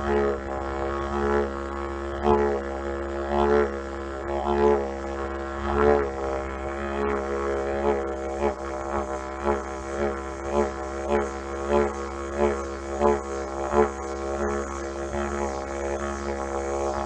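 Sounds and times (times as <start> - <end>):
didgeridoo low drone: 0.0 - 17.0.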